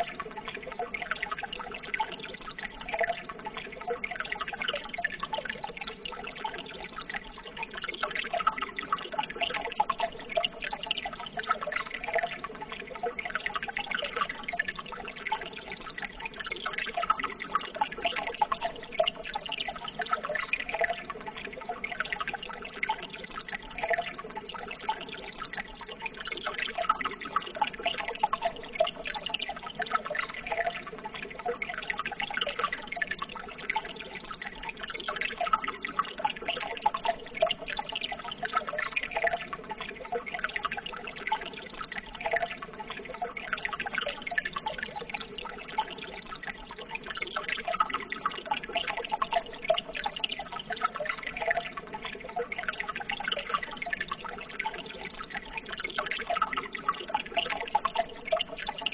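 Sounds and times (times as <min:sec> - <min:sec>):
water trickling with drips: 0:00.0 - 0:58.9.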